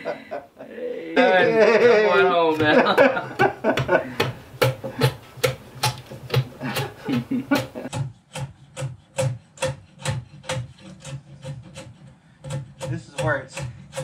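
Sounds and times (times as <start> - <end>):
hand tool scraping wood: 1.4 - 14.0.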